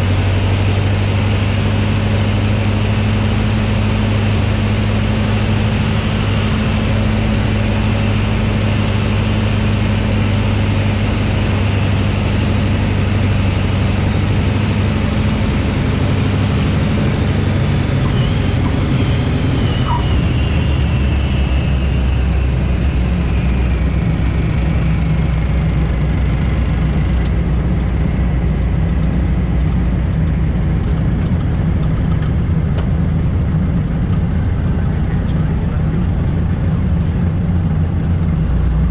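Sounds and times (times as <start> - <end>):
light aircraft piston engine: 0.0 - 38.9.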